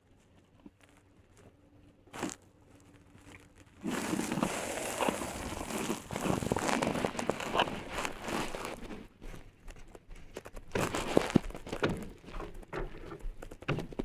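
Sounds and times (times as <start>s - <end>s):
close crackling and rustling: 0.0s - 14.0s.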